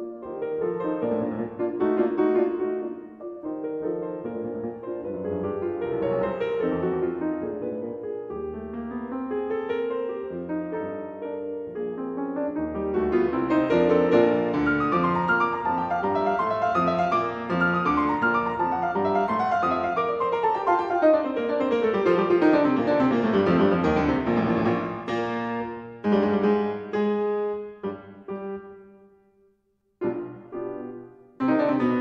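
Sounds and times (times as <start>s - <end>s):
piano music: 0.0s - 29.3s, 30.0s - 32.0s.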